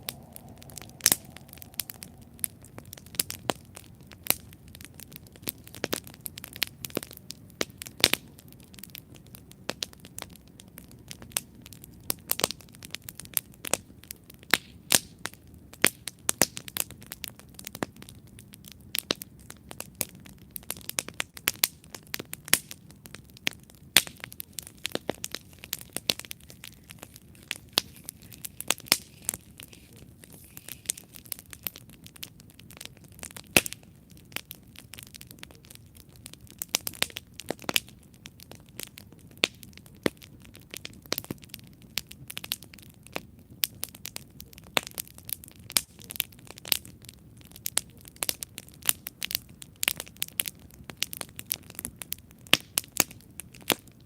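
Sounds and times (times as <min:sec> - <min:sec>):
campfire crackling and popping: 0:00.0 - 0:54.0
low rumble of flames: 0:00.0 - 0:54.0.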